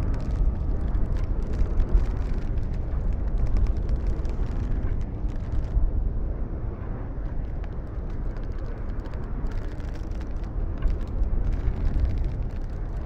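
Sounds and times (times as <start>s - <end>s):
sharp clicks and creaks: 0.0s - 5.8s, 7.2s - 13.0s
strong wind rumbling: 0.0s - 13.0s.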